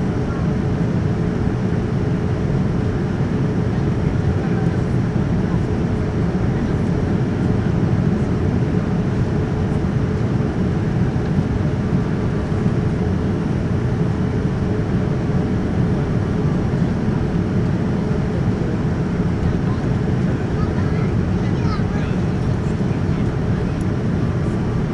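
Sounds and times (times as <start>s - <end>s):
aircraft cabin engine noise: 0.0s - 24.9s.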